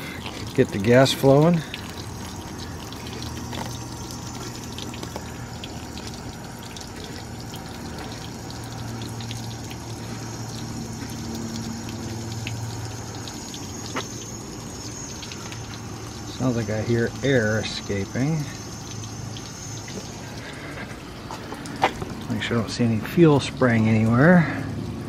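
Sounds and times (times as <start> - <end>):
water rushing from hose: 0.0 - 25.0
low hum: 1.6 - 22.9.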